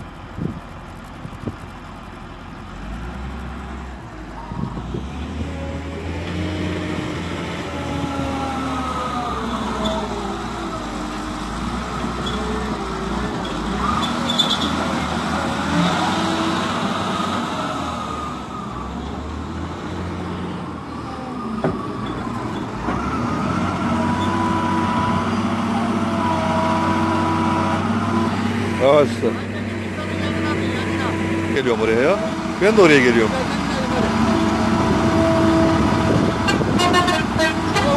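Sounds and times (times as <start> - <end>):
wheel loader diesel engine: 0.0 - 37.9.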